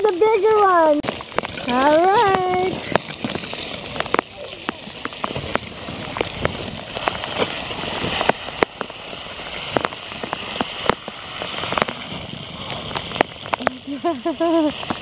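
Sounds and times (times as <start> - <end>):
ice pellets ticking: 0.0 - 15.0
sleet hissing: 0.0 - 15.0.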